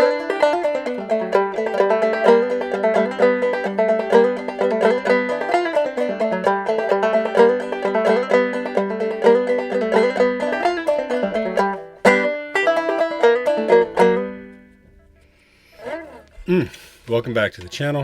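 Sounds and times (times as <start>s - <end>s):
banjo strum: 0.0s - 16.4s
banjo plucking: 0.0s - 16.6s.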